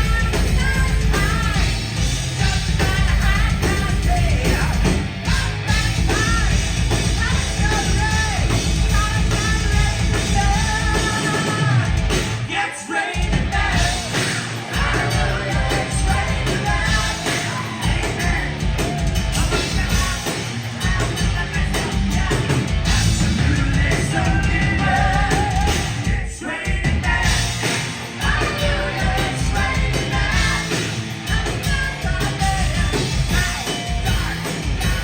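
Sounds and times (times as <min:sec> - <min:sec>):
heavy bass and drums: 0:00.0 - 0:12.6, 0:13.2 - 0:35.0.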